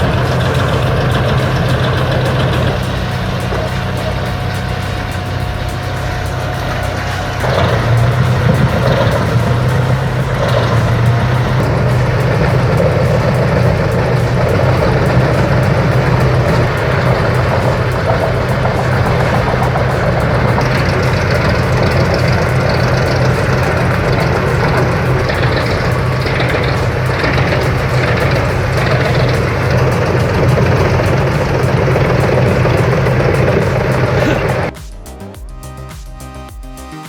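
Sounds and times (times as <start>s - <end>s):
wood chipper engine humming: 0.0s - 34.8s
grinding noise: 0.0s - 35.3s.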